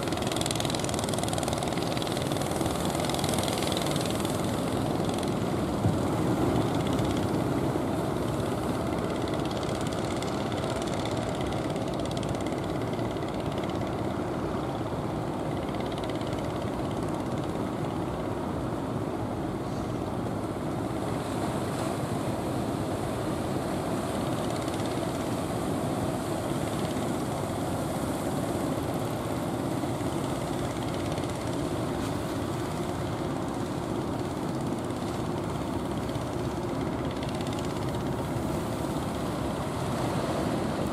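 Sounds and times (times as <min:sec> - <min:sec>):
boat engines running: 0:00.0 - 0:40.9.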